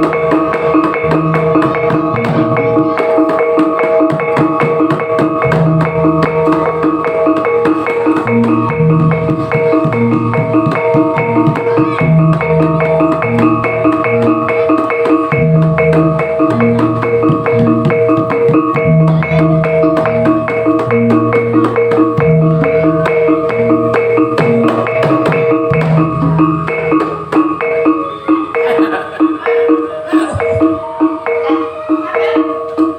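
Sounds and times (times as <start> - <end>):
gamelan percussion fast beat: 0.0 - 32.9
low drum notes: 0.0 - 32.9.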